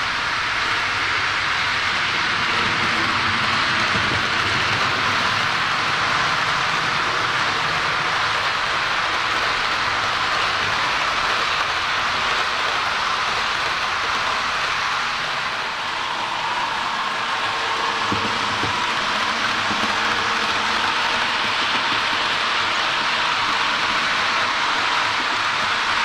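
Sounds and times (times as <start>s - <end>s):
model train rattling rumble: 0.0s - 26.0s
steady hiss: 0.0s - 26.0s.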